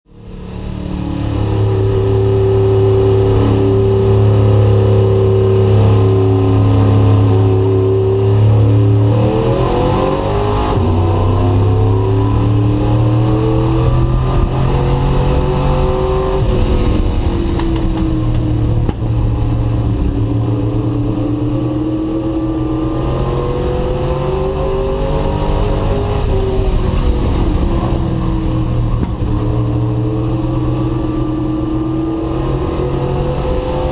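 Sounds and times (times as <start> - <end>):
race truck engine revving: 0.1 - 33.9.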